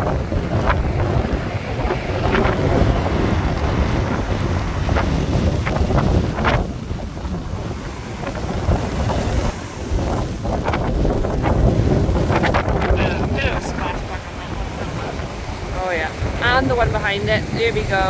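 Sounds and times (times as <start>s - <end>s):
waves breaking on shingle beach: 0.0s - 18.0s
wind buffeting microphone: 0.0s - 18.0s.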